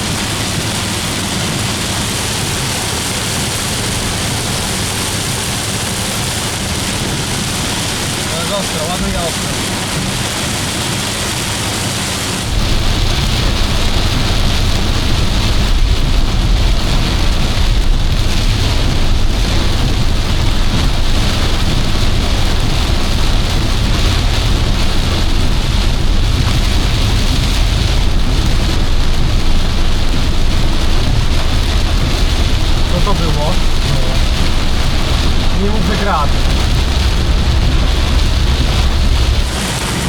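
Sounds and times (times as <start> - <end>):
car road and engine noise: 0.0 - 40.0
rain pounding on car roof: 0.0 - 40.0
steady deep rumble: 0.0 - 40.0.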